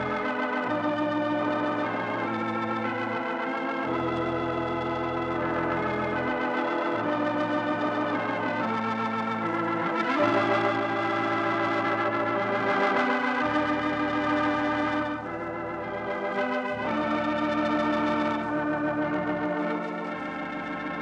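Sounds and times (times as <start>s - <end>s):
organ chords: 0.0s - 21.0s.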